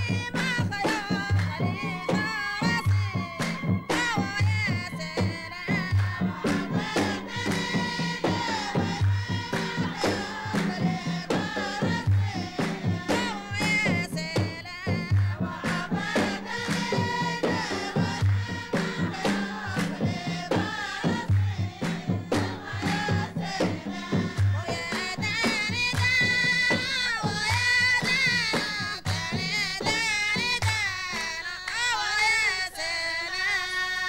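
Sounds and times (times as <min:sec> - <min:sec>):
hand-clapping: 0:00.0 - 0:32.4
group singing together: 0:00.0 - 0:34.0.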